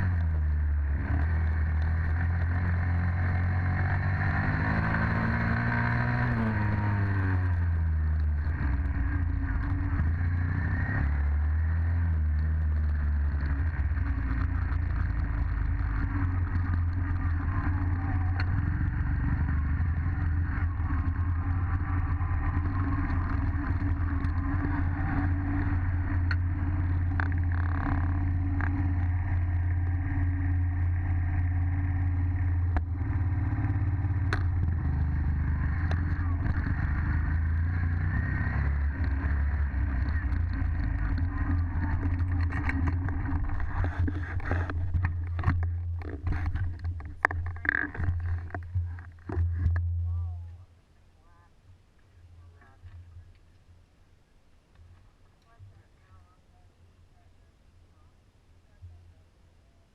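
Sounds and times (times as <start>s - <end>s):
dirt bike engine running: 0.0s - 50.6s.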